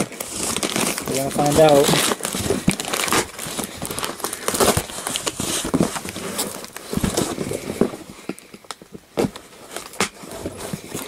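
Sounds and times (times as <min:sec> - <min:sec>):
cardboard box rustling and scraping: 0:00.0 - 0:08.4, 0:09.1 - 0:11.0.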